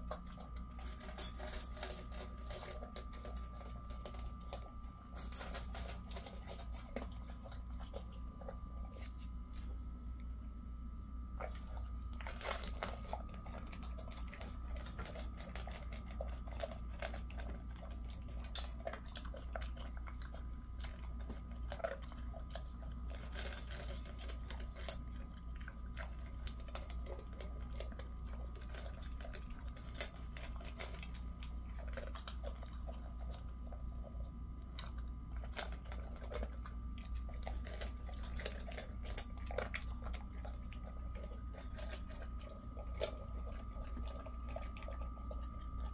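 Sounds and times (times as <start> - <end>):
kibble clicking on metal bowl: 0.0 - 8.7, 11.4 - 45.9
dog crunching kibble: 0.0 - 45.9.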